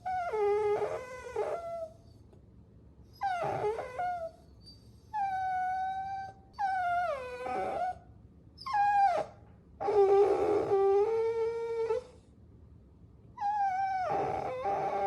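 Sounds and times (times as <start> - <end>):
puppies whining: 0.0 - 2.2, 3.1 - 8.0, 8.6 - 12.2, 13.4 - 15.0.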